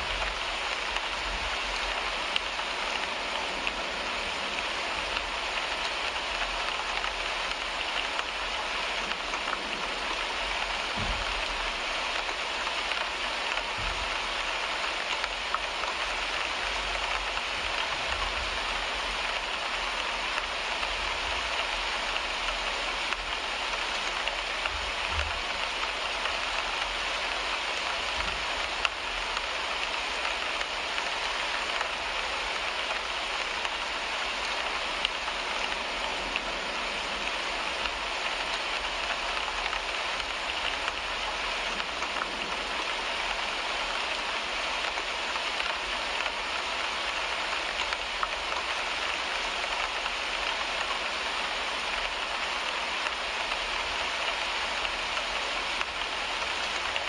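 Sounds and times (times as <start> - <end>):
rain on a car windshield: 0.0 - 57.0.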